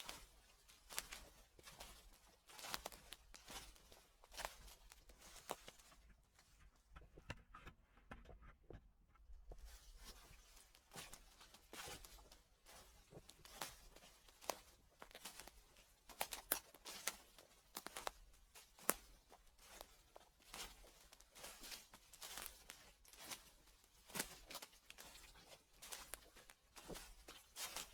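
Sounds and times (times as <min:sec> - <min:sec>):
faint footsteps crunching dry leaves: 0:00.0 - 0:06.0, 0:09.7 - 0:27.9.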